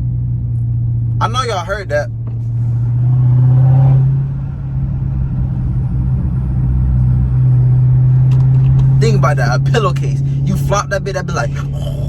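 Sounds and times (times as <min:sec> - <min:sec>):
car exhaust drone: 0:00.0 - 0:12.0.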